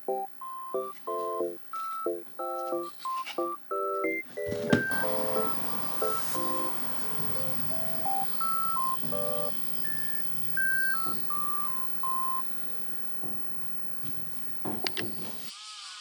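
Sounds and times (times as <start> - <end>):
electronic beep-like melody: 0.1 - 15.0.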